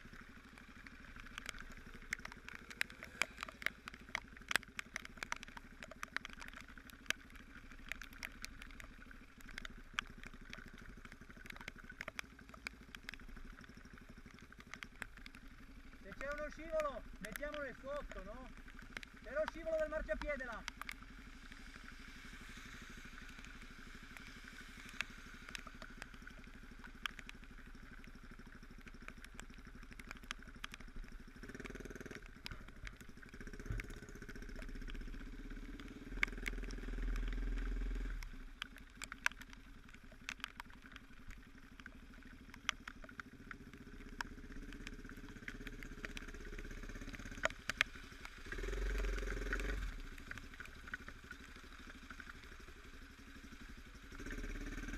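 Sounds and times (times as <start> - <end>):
sharp ticks: 0.0 - 54.9.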